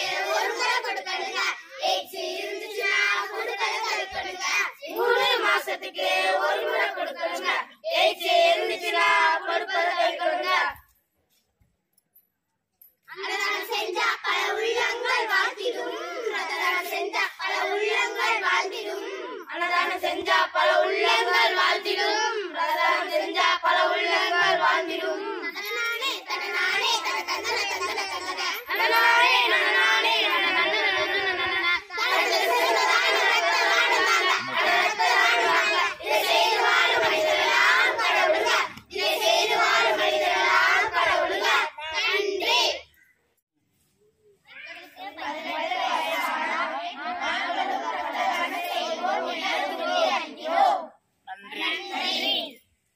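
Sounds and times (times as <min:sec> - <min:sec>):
children singing in unison: 0:00.0 - 0:10.7, 0:13.1 - 0:42.9, 0:45.0 - 0:50.9.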